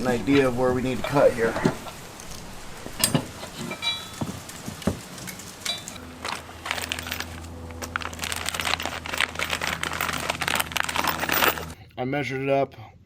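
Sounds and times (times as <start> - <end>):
metal hitch scraping and clattering: 0.0 - 11.8
steady low hum: 0.0 - 12.0.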